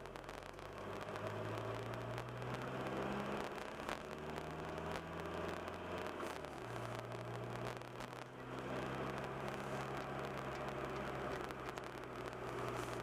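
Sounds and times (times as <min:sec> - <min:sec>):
car engine accelerating: 0:00.0 - 0:13.0
road noise: 0:00.0 - 0:13.0.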